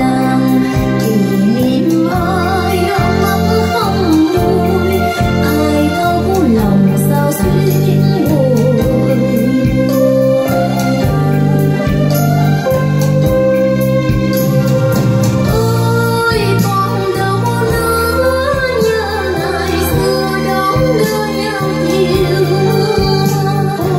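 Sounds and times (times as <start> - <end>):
song over loudspeakers: 0.0 - 23.9.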